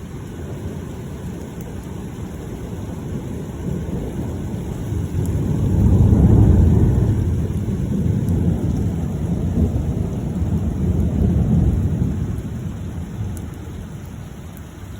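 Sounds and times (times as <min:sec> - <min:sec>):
rain falling: 0:00.0 - 0:14.9
thunder rumbling: 0:00.0 - 0:14.9.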